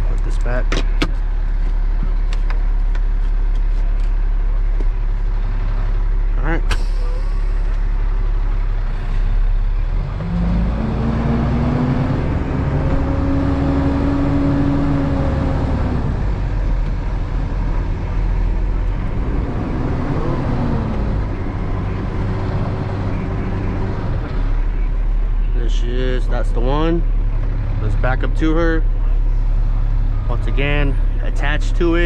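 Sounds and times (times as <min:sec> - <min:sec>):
truck engine rumbling: 0:00.0 - 0:32.0.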